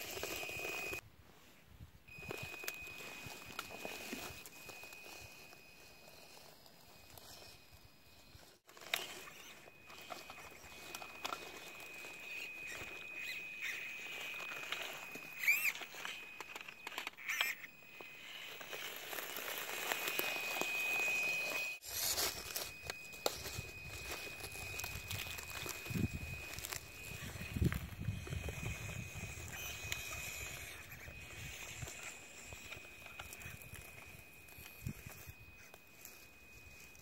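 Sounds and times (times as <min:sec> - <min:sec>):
electric motor whine: 0:00.0 - 0:01.0, 0:02.1 - 0:37.0
tyres crackling on dry leaves: 0:02.1 - 0:37.0.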